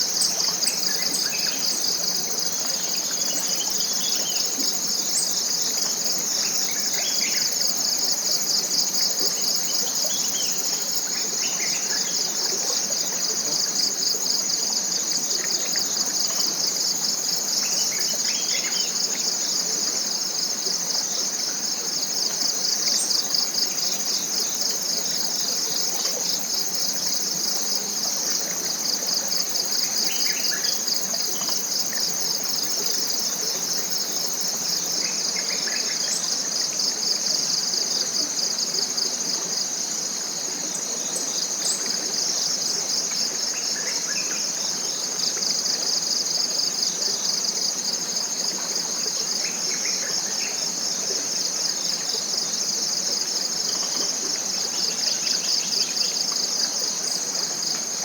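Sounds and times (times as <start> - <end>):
insects chorus with pulsing trill: 0.0 - 58.0.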